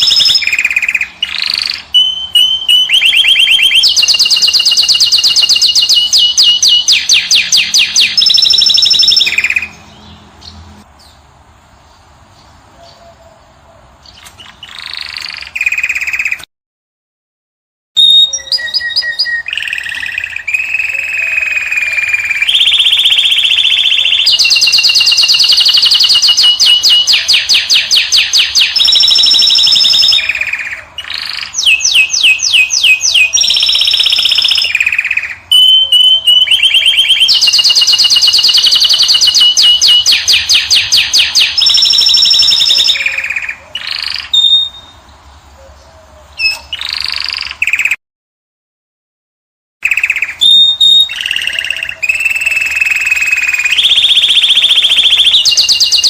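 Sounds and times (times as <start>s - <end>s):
finch singing trills and whistles: 0.0s - 11.2s, 14.0s - 16.4s, 18.0s - 48.0s, 49.8s - 56.0s.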